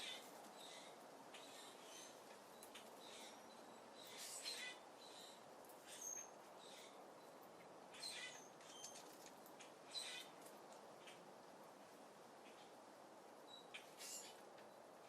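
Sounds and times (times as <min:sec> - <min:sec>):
small birds chirping: 0:00.0 - 0:11.3, 0:13.4 - 0:15.0
faint steady hiss: 0:00.0 - 0:15.0.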